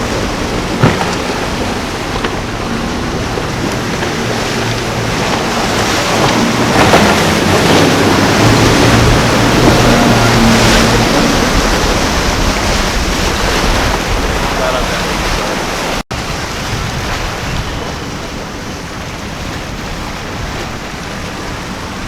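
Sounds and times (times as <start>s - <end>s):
boat engine drone: 0.0s - 22.0s
waves and surf: 0.0s - 22.0s
wind on microphone: 0.0s - 22.0s.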